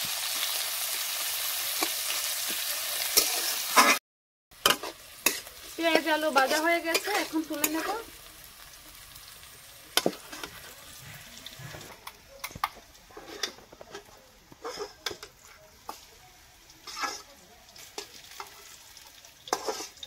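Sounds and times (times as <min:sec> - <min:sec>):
hot oil sizzling: 0:00.0 - 0:20.0
metal spoon scraping in a pan: 0:01.2 - 0:04.0, 0:04.6 - 0:08.2, 0:09.9 - 0:20.0.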